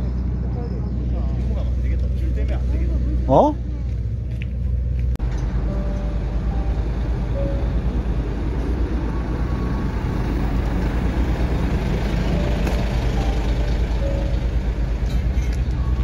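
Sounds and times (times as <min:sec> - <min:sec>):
diesel engine drone: 0:00.0 - 0:16.0.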